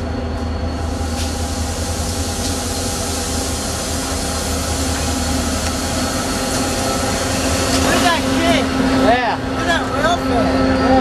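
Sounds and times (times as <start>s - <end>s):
diesel locomotive engine drone: 0.0s - 11.0s
wheels hissing on rails: 0.3s - 11.0s.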